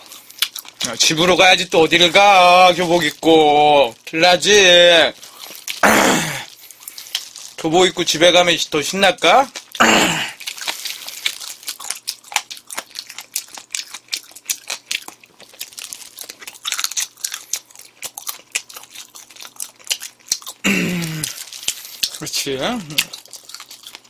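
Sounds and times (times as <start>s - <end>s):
plastic gloves crinkling: 0.0s - 17.2s, 17.8s - 24.0s
person chewing and crunching: 0.0s - 24.0s.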